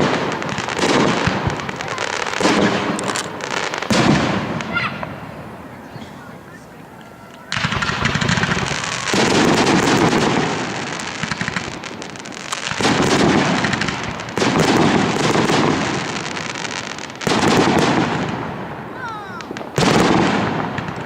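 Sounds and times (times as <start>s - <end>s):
fireworks bursting: 0.0s - 21.0s
fireworks crackling: 0.0s - 21.0s.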